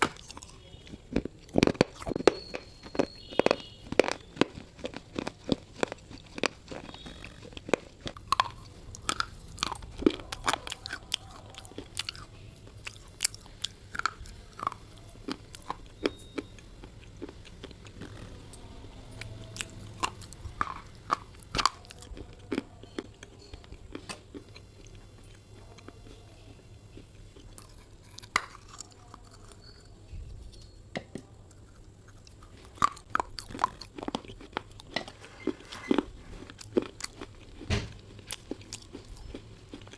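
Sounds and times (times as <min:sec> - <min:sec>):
biting and chewing brittle clay: 0:00.0 - 0:39.9.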